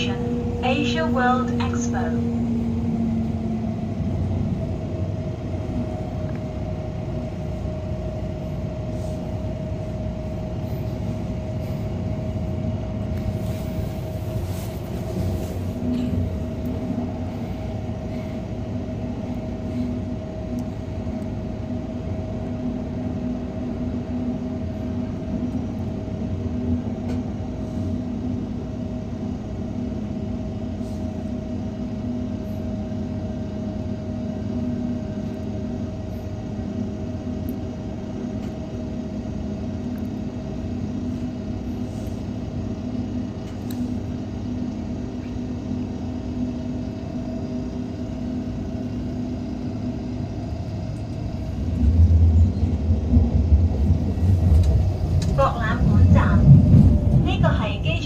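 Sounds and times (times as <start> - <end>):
low hum: 0.0 - 58.0
train wheels rumbling on track: 0.0 - 58.0.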